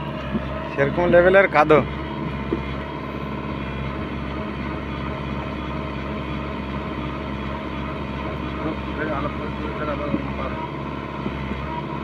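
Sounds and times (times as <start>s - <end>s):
diesel engine running steadily: 0.0s - 12.0s.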